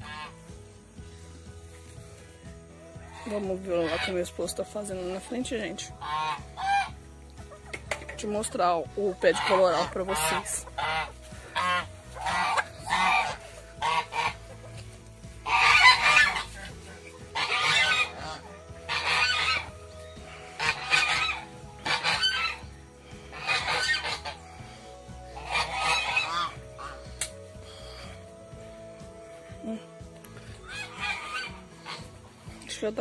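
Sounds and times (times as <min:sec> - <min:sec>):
geese honking: 0:00.0 - 0:01.2, 0:03.0 - 0:32.6.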